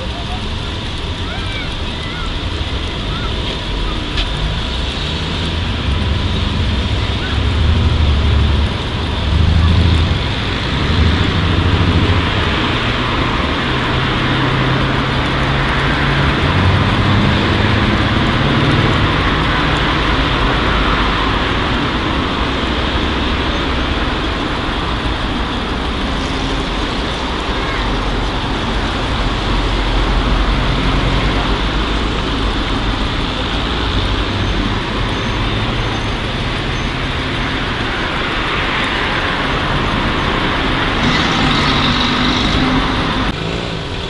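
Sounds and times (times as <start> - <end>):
street traffic: 0.0 - 44.0
vehicles passing: 0.0 - 44.0.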